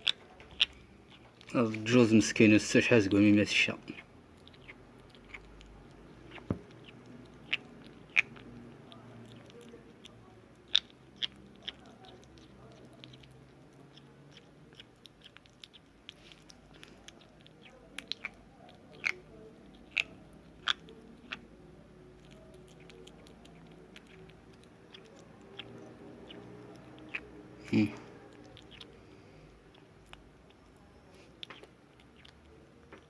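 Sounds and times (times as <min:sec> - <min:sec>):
kitten chewing food: 0:00.0 - 0:33.0.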